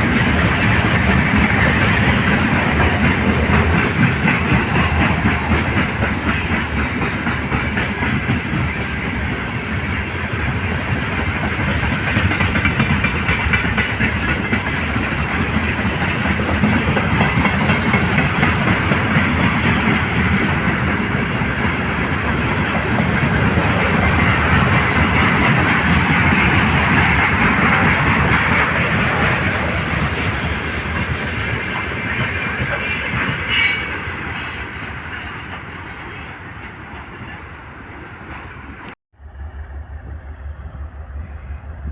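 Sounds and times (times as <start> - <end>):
freight train wheels clattering: 0.0 - 37.4.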